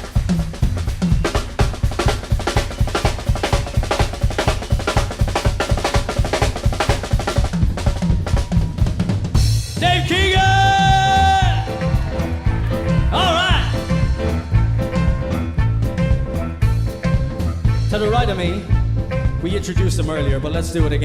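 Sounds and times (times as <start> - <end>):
drum kit solo: 0.0 - 21.0.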